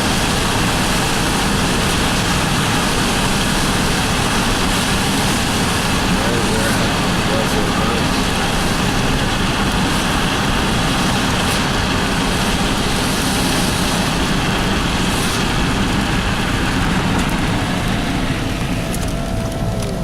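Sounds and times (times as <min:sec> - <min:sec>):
car engine running: 0:00.0 - 0:20.0
tyre and road noise: 0:00.0 - 0:20.0.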